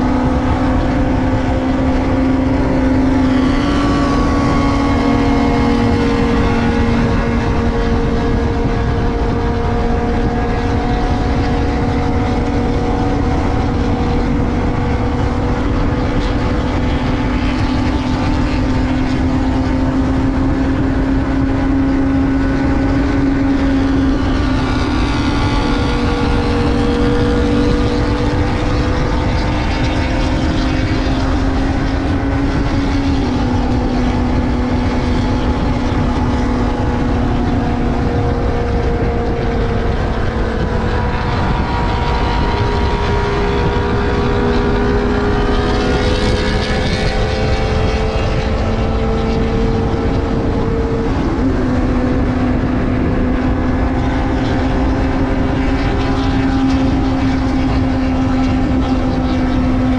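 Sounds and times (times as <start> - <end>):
motorcycle engine cruising: 0.0 - 59.9
wind rush: 0.0 - 59.9.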